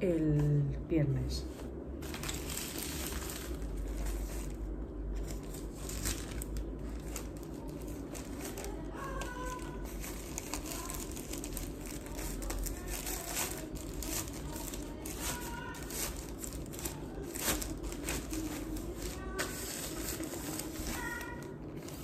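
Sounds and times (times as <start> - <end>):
plastic bag crinkling: 2.0 - 22.0.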